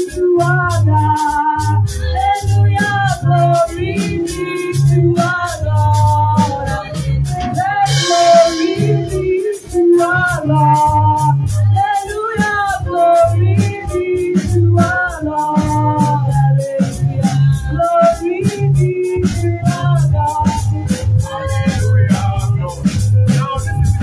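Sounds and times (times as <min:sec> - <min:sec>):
woman singing into a microphone: 0:00.0 - 0:23.0
bass line: 0:00.0 - 0:24.0
drum kit beat: 0:00.0 - 0:24.0.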